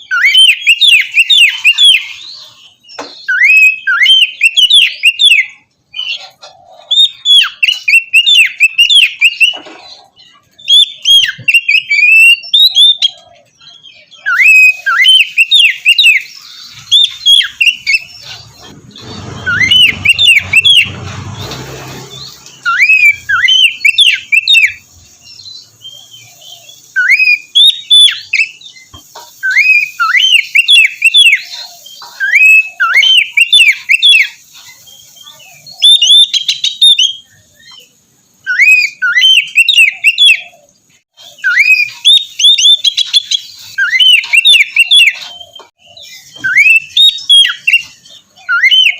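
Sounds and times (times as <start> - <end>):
bird singing whistled notes: 0.0 - 6.2, 6.8 - 9.6, 10.3 - 48.9.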